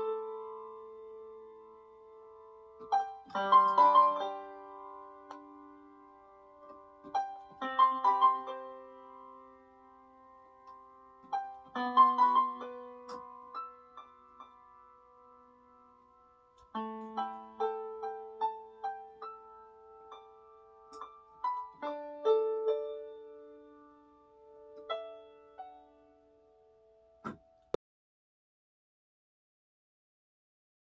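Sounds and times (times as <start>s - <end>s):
soft piano keyboard playing: 0.0s - 27.8s.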